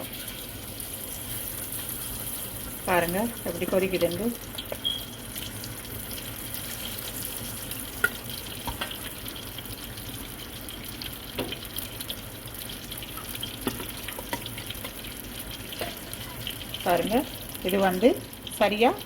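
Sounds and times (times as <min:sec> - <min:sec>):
oil popping and crackling: 0:00.0 - 0:19.0
prawns sizzling in hot oil: 0:00.0 - 0:19.0.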